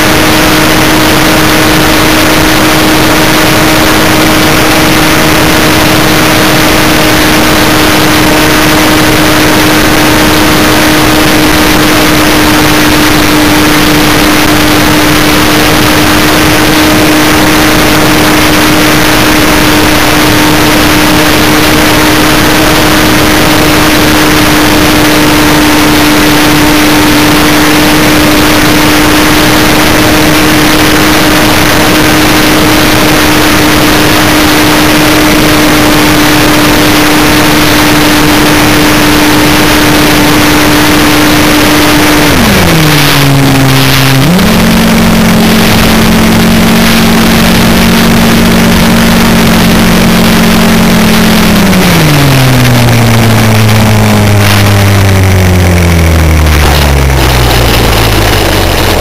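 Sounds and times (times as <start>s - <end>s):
electric motor propeller whine: 0.0s - 59.0s
wind rush: 0.0s - 59.0s.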